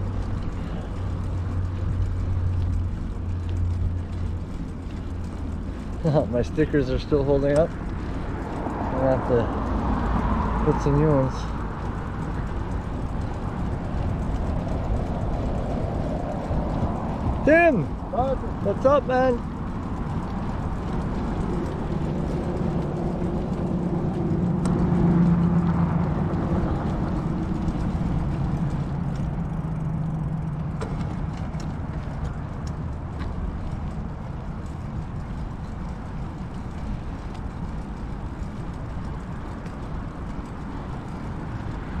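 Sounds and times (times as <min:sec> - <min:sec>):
passing motor vehicle hum: 0:00.0 - 0:42.0
wind and road rush from bicycle: 0:00.0 - 0:42.0.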